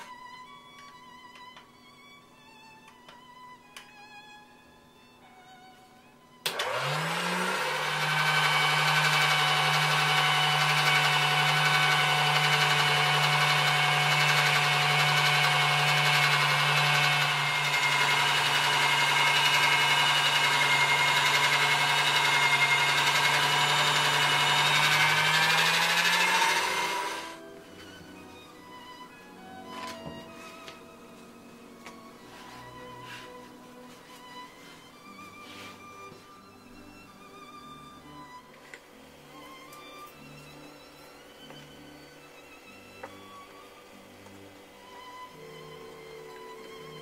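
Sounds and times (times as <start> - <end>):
pasta roller motor humming: 6.4 - 47.0.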